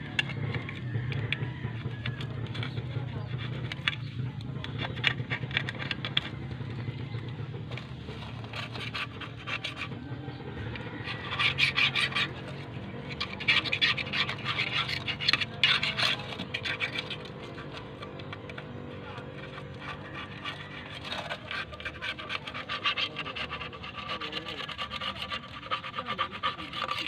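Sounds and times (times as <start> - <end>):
scraping sealant off metal: 0.0 - 27.0.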